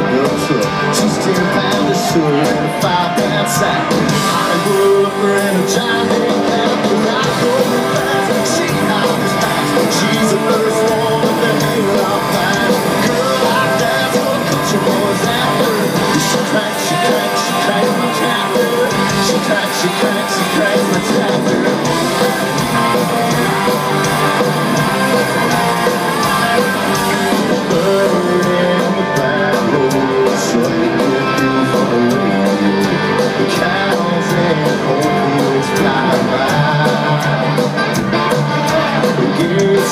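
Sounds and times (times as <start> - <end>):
drums: 0.0 - 39.9
electric guitars: 0.0 - 39.9
live country band playing: 0.0 - 39.9
man singing lead vocal: 0.0 - 39.9.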